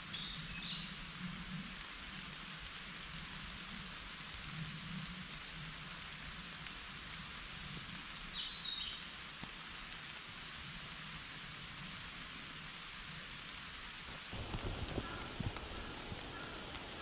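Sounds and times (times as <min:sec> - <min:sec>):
rain falling in forest: 0:00.0 - 0:17.0.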